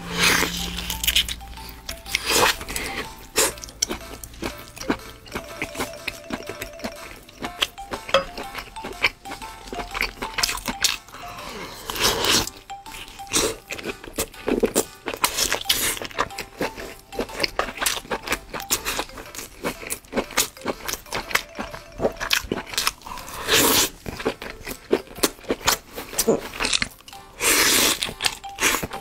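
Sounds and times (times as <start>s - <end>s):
background music: 0.0s - 29.0s
crunchy bites and wet chewing: 0.1s - 11.2s, 11.8s - 29.0s.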